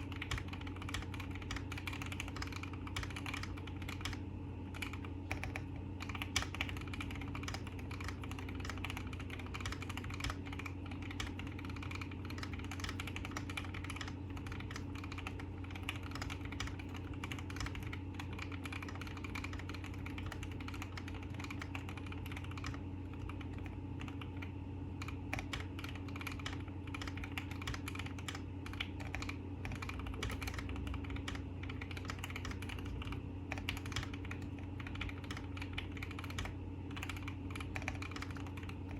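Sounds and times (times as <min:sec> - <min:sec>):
low hum: 0:00.0 - 0:38.9
mechanical keyboard typing: 0:00.0 - 0:38.9.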